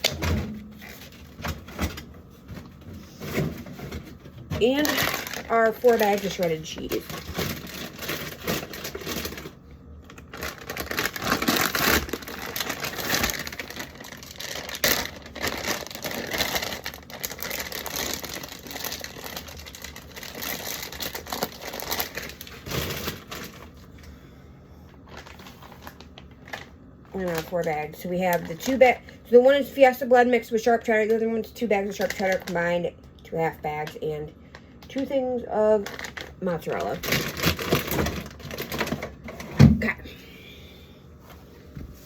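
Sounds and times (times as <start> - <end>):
plastic bags crinkling: 0.0 - 24.0, 25.0 - 30.0, 30.9 - 32.7, 34.9 - 39.6.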